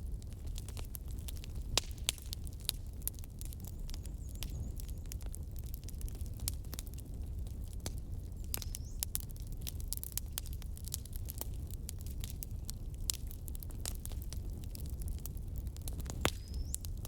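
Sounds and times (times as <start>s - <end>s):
low rumble of flames: 0.0s - 17.0s
wood fire pops and crackles: 0.0s - 17.0s.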